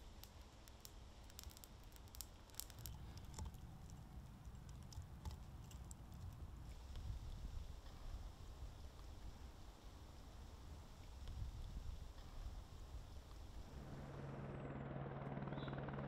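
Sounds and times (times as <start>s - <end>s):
undergrowth fire crackling: 0.0s - 13.8s.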